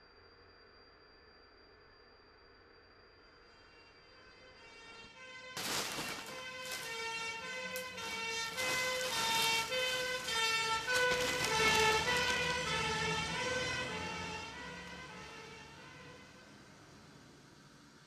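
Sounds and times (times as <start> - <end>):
two-note emergency siren: 2.6 - 17.7.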